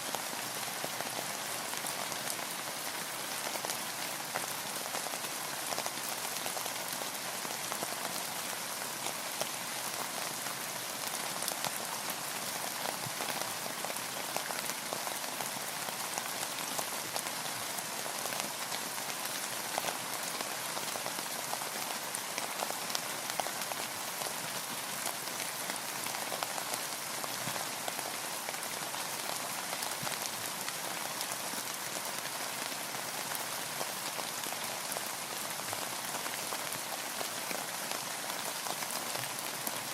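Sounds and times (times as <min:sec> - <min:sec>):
rain pattering on boat and water: 0:00.0 - 0:39.9.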